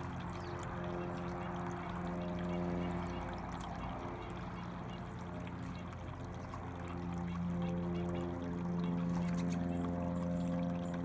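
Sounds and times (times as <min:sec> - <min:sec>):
fountain water trickling: 0:00.0 - 0:11.0
steady low hum: 0:00.0 - 0:11.0.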